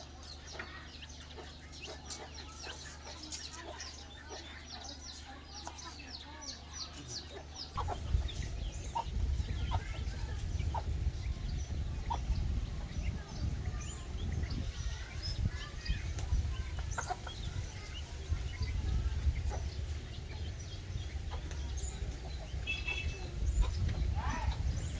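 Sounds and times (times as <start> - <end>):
chicks peeping: 0.0 - 24.9
hen clucking: 0.0 - 24.9.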